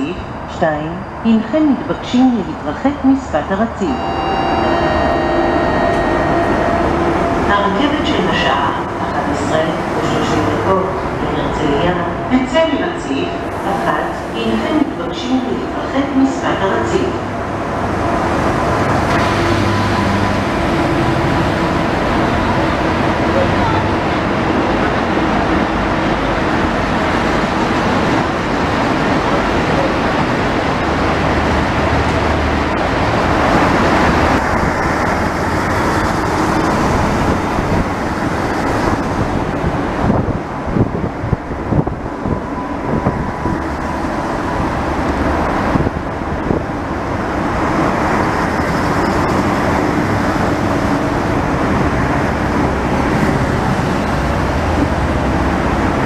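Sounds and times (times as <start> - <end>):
train wheels rumbling on rail: 4.4 - 56.0.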